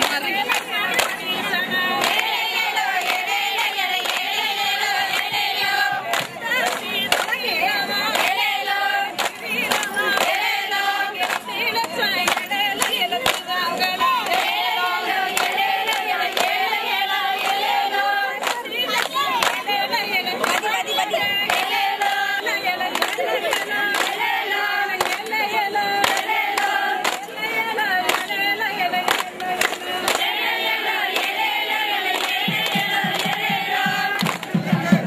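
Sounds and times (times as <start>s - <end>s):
hand claps: 0.0s - 35.0s
women singing in chorus: 0.0s - 35.0s.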